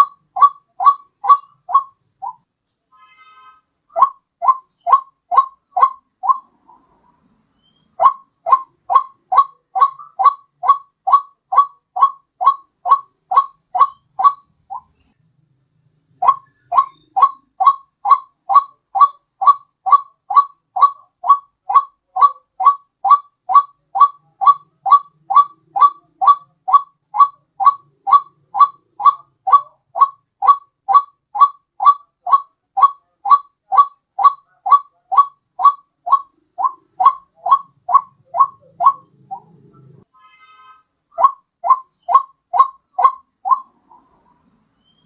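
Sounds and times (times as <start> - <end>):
waterhen calling: 0.0 - 2.4, 3.9 - 7.0, 7.6 - 15.1, 16.2 - 40.0, 41.2 - 45.0.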